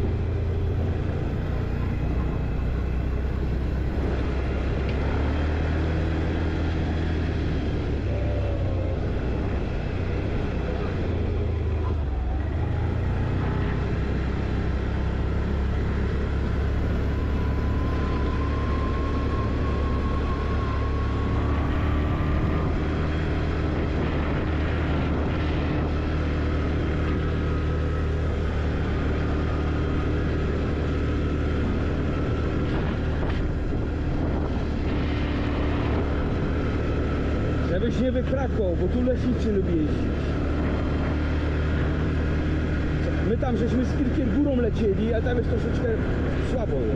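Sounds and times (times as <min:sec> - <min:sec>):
quad bike engine running: 0:00.0 - 0:46.9.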